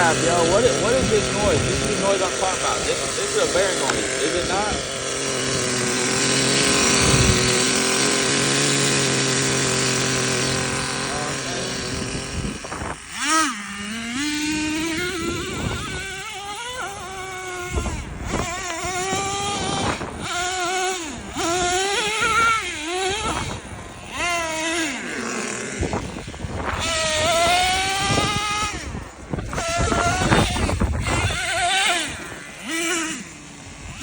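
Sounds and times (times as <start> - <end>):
toy truck engine revving: 0.0 - 34.0.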